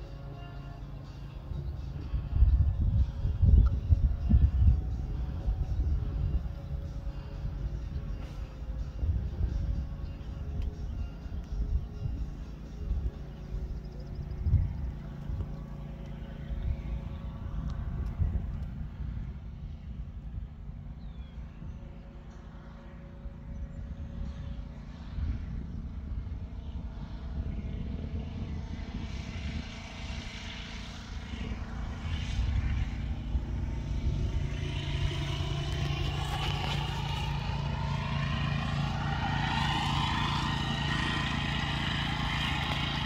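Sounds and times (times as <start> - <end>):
distant engine drone: 0.0 - 43.0.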